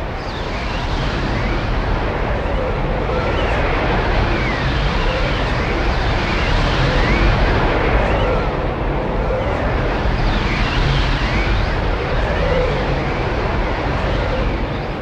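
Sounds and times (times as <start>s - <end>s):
sweeping whistling tones: 0.0s - 15.0s.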